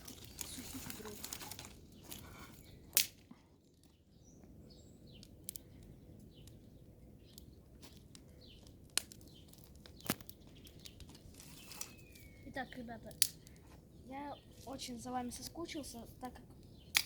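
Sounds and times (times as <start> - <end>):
sharp cracks of fire: 0.0 - 4.0, 4.8 - 17.0
birds chirping: 0.0 - 17.0
twig fire crackling: 0.0 - 17.0.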